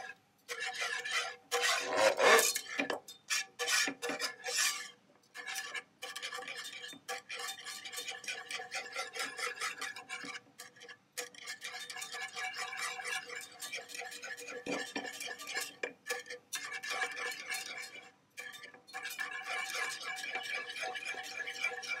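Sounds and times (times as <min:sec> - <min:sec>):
whisk scraping and rattling in pan: 0:00.0 - 0:22.0.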